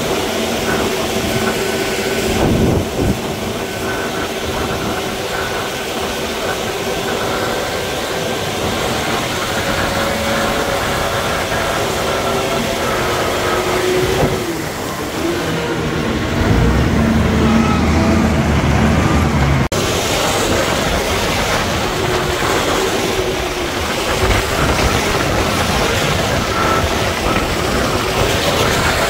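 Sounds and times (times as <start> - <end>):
deeper engine note: 0.0 - 29.0
diesel engine of heavy machinery: 0.0 - 29.0.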